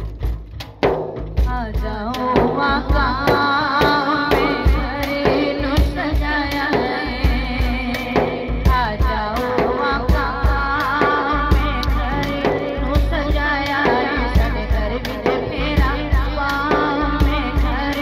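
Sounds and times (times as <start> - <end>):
frame drum beating: 0.0 - 18.0
woman singing: 1.4 - 18.0.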